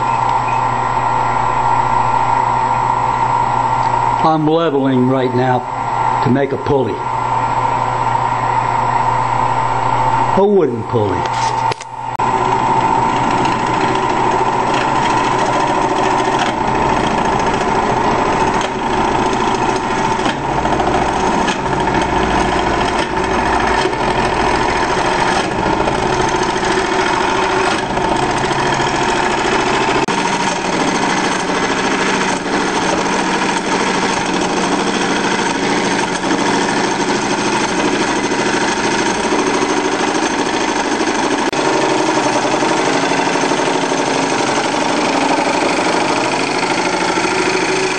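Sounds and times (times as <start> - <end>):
lathe running with whine: 0.0 - 47.9.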